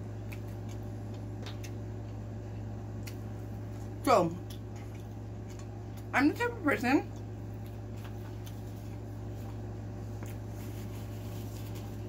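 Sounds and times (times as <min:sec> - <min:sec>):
chewing food: 0:00.0 - 0:06.2, 0:07.0 - 0:12.0
steady low hum: 0:00.0 - 0:12.0.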